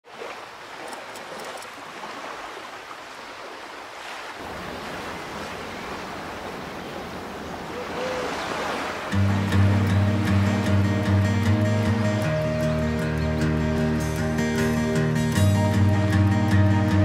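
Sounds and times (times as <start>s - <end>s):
sea surf waves breaking: 0.0s - 15.4s.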